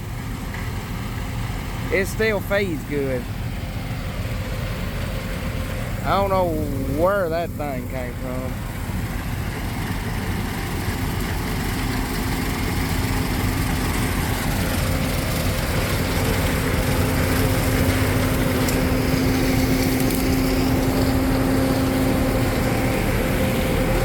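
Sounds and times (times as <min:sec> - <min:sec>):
combine harvester engine and threshing: 0:00.0 - 0:24.0.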